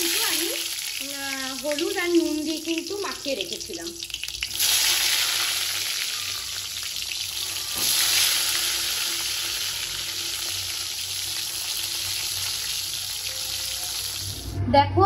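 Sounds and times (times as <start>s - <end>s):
eggplants sizzling in hot oil: 0.0s - 14.4s.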